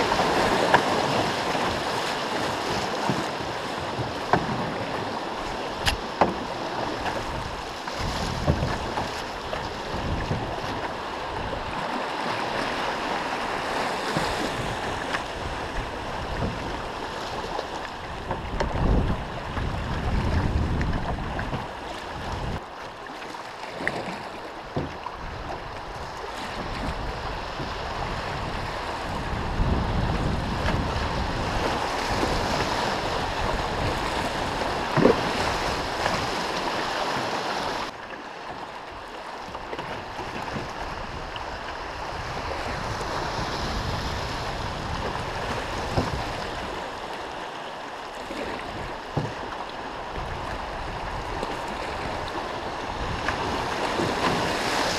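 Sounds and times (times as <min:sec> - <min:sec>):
paddle knocking against hull: 0:00.0 - 0:12.0, 0:13.5 - 0:22.6, 0:23.8 - 0:37.3, 0:39.4 - 0:43.9, 0:44.6 - 0:46.8, 0:48.4 - 0:52.3
wind on microphone: 0:00.0 - 0:22.6, 0:24.6 - 0:37.9, 0:39.8 - 0:47.2, 0:48.2 - 0:54.9
river water rushing: 0:00.0 - 0:54.9.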